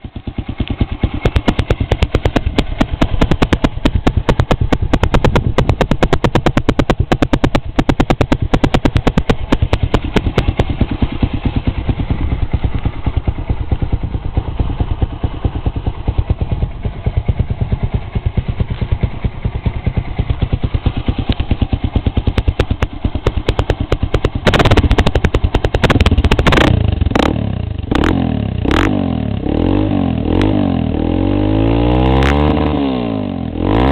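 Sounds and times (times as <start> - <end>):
motorcycle engine idling: 0.0 - 32.0
motorcycle engine revving: 0.0 - 33.9.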